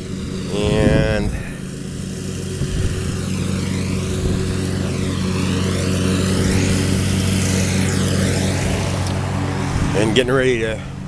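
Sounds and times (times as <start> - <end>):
riding lawn mower engine running: 0.0 - 11.0.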